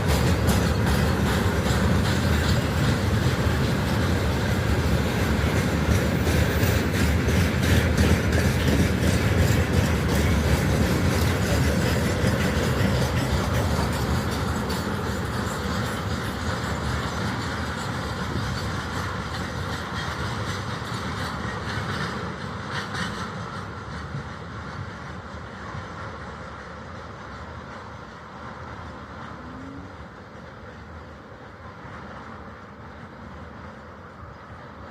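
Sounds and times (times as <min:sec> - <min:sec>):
freight train wheels clattering: 0:00.0 - 0:34.9.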